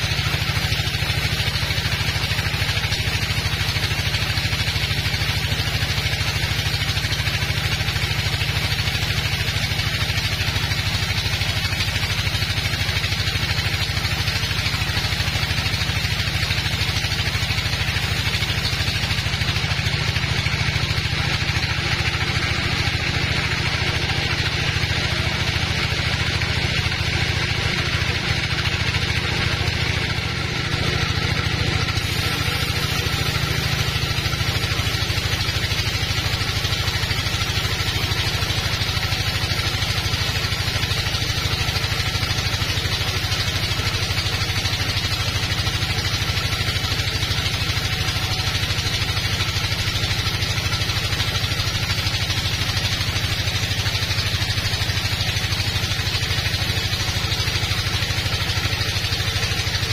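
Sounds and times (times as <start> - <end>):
band saw cutting a log: 0.0 - 59.9.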